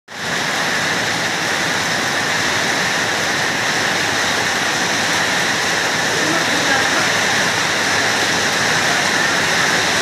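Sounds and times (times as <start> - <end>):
heavy rain on tiled floor: 0.1 - 10.0.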